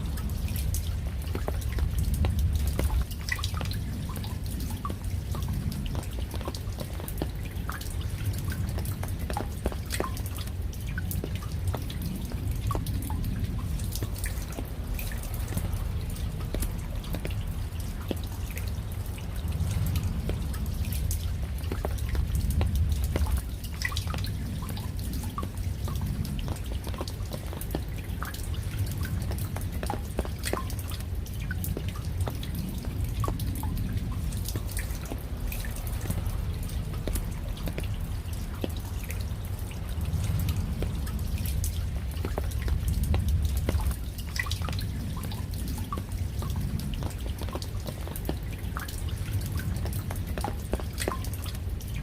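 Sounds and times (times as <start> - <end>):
low rain rumble: 0.0 - 52.0
rain drops ticking: 0.0 - 52.0.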